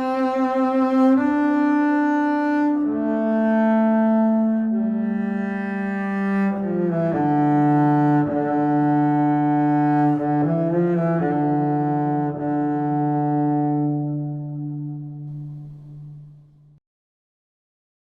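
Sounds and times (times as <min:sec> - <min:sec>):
slow bowed string chords: 0:00.0 - 0:16.8.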